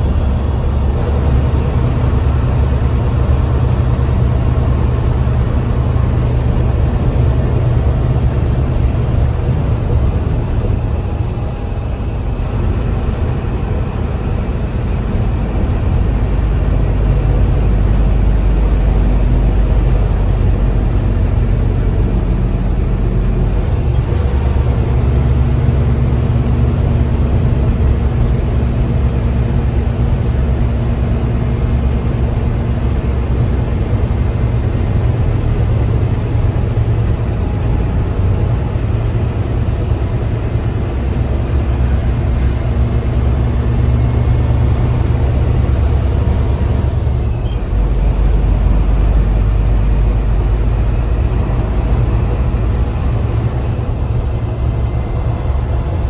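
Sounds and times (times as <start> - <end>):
bus diesel engine pulling hard: 0.0 - 56.0.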